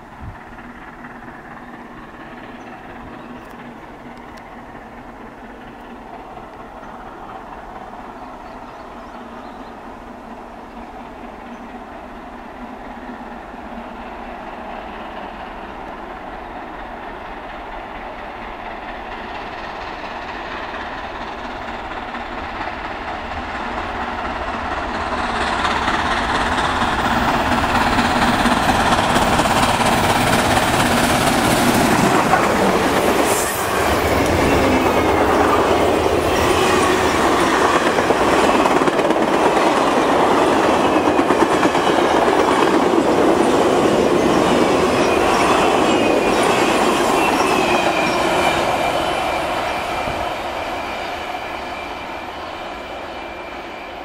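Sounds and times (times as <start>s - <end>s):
train wheels clicking over rail joints: 0.0s - 53.3s
steam locomotive rushing past: 0.0s - 54.0s.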